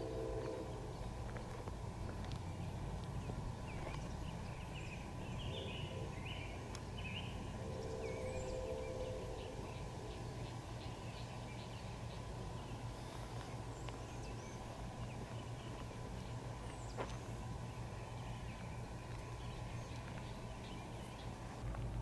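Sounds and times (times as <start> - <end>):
birds chirping: 0.0 - 21.6
diesel locomotive rumbling: 0.0 - 22.0.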